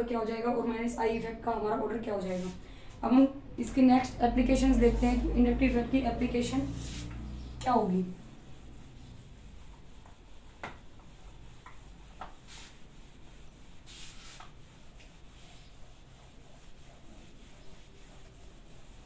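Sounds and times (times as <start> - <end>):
duster rubbing on whiteboard: 0.1 - 19.0.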